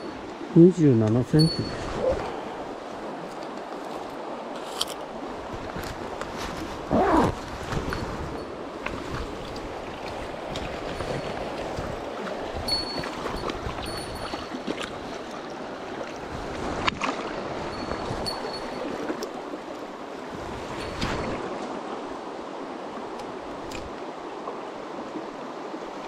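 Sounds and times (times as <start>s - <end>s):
river water rushing over stones: 0.0s - 26.0s.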